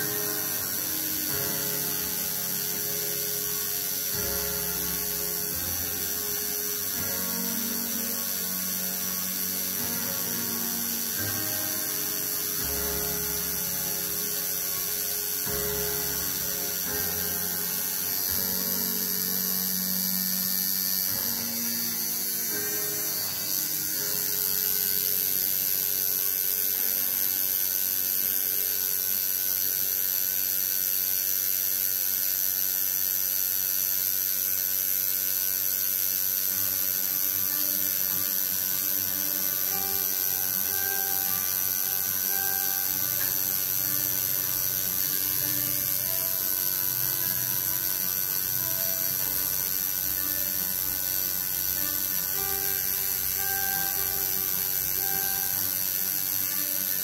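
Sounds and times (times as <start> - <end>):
tattoo machine buzzing: 0.0 - 57.0.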